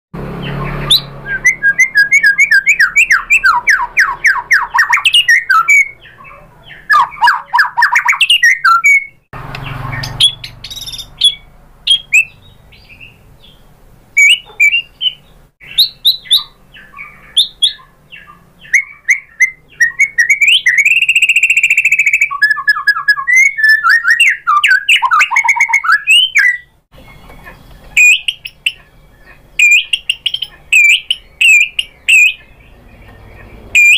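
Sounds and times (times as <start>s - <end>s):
songbird singing trills and whistles: 0.4s - 33.9s.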